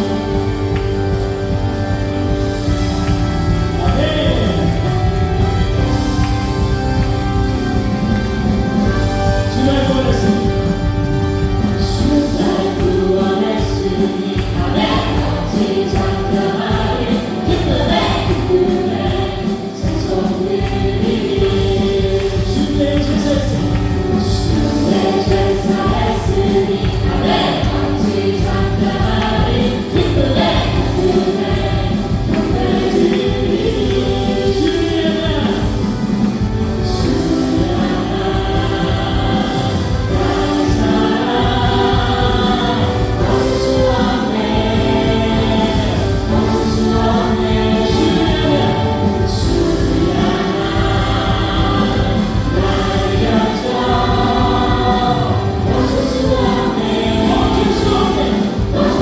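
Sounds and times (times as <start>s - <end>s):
group singing: 0.0s - 59.0s
live band playing: 0.0s - 59.0s.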